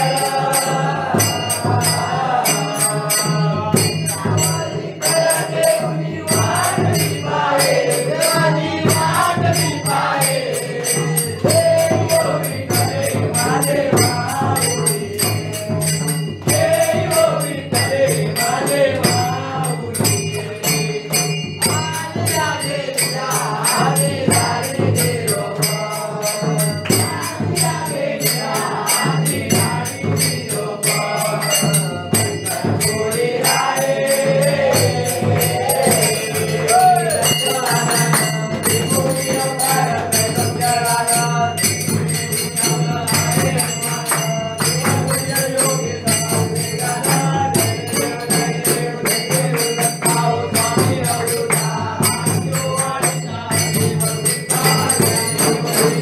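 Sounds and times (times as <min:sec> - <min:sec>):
men singing in unison: 0:00.0 - 0:56.0
rhythmic hand-clapping: 0:00.0 - 0:56.0.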